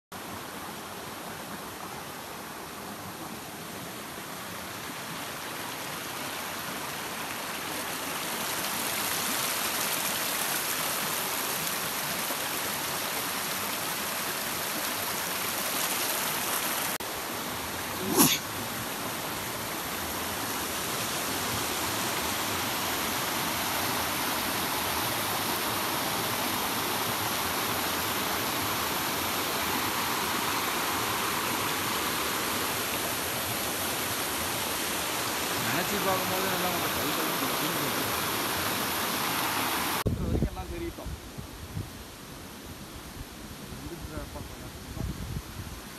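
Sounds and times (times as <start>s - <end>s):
stream and waterfall rushing: 0.2s - 45.9s.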